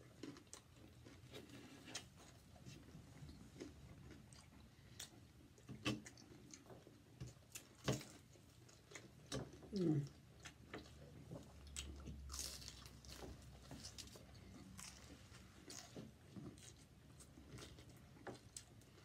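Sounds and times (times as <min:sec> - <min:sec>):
crunching and chewing: 0:00.0 - 0:19.0.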